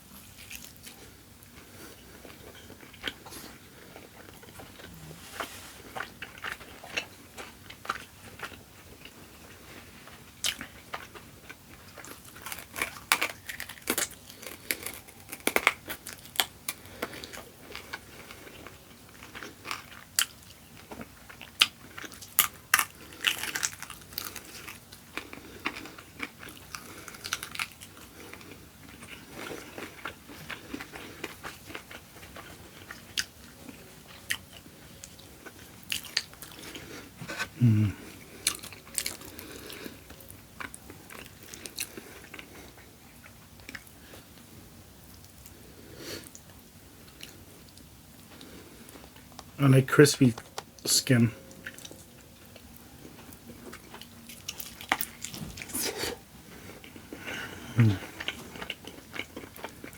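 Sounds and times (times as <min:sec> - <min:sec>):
crunchy bites and chewing: 0:00.0 - 0:05.0, 0:05.8 - 0:43.9, 0:51.6 - 0:59.9.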